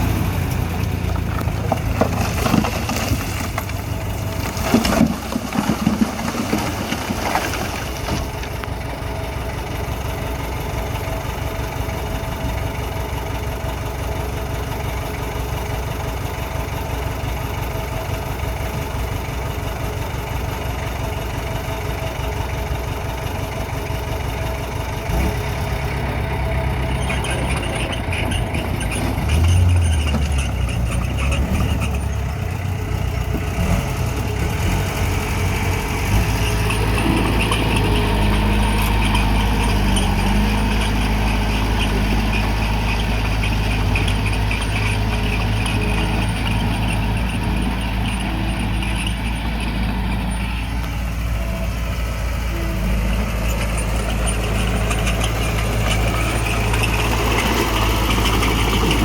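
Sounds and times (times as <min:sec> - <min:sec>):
heavy diesel engine rumbling: 0:00.0 - 0:59.0.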